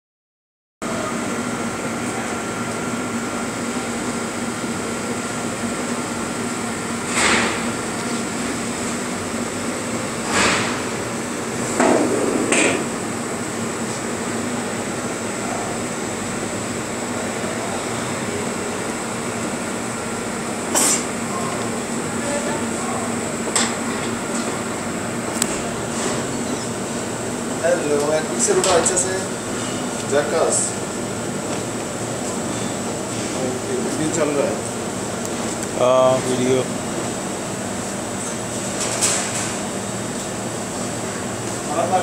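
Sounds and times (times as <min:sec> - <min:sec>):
appliance hum: 0:00.8 - 0:42.0.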